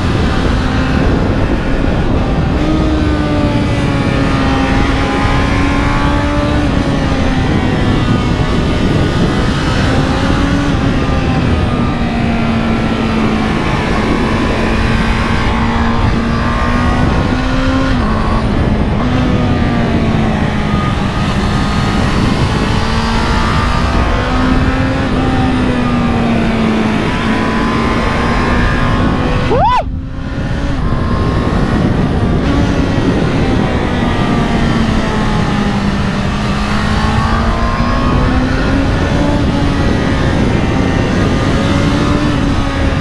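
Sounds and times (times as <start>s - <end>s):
motorcycle engine running: 0.0s - 43.0s
wind noise: 0.0s - 43.0s.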